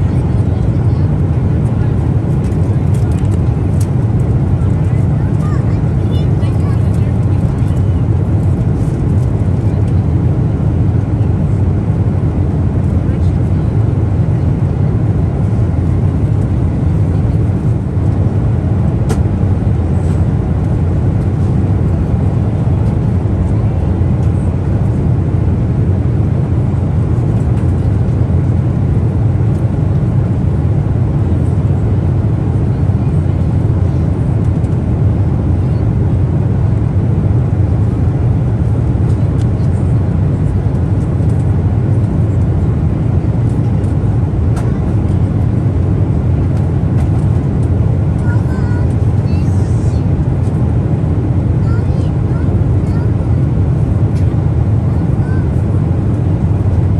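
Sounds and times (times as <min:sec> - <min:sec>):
aircraft cabin rumble: 0:00.0 - 0:56.9.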